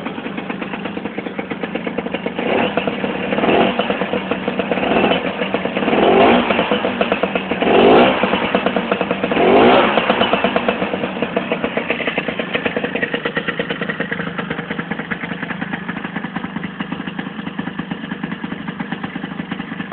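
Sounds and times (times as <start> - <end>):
scooter engine revving and idling: 0.0 - 19.9.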